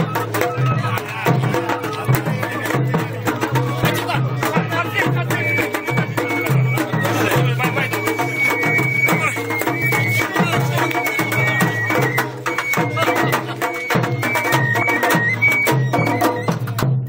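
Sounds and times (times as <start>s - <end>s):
high flute melody: 0.0s - 17.0s
taiko drums: 0.0s - 17.0s.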